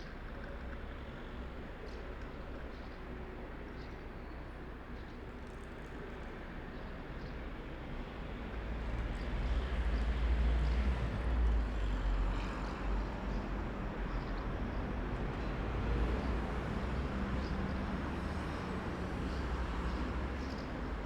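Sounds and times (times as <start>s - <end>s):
steady traffic noise: 0.0s - 21.0s.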